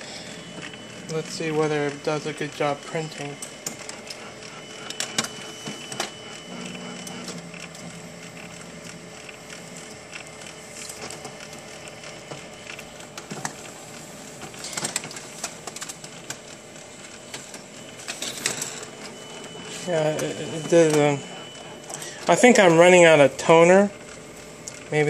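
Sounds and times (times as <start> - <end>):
high whine: 0.0 - 25.0
laser printer whirring: 0.0 - 25.0
printer clicks: 0.5 - 23.0.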